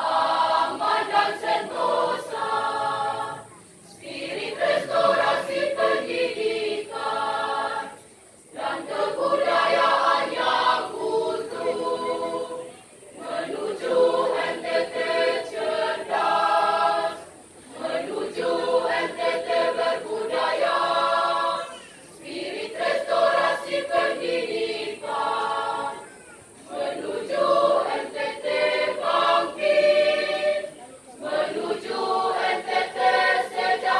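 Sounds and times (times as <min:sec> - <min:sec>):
choir singing unaccompanied: 0:00.0 - 0:33.9.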